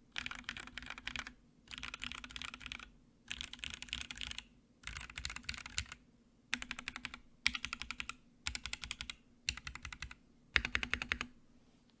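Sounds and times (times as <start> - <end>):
mechanical keyboard typing: 0.1 - 11.3.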